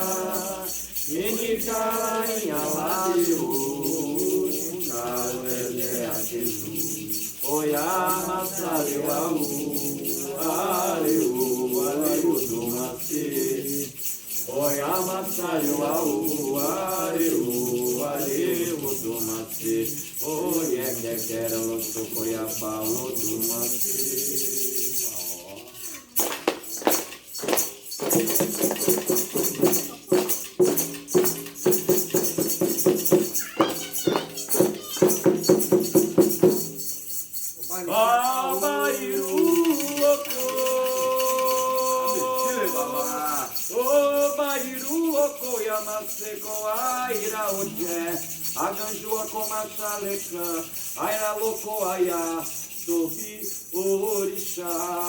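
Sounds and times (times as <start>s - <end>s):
shaken rattle: 0.0s - 55.0s
sharp rhythmic beats: 0.0s - 55.0s
voices singing a chant: 0.0s - 55.0s.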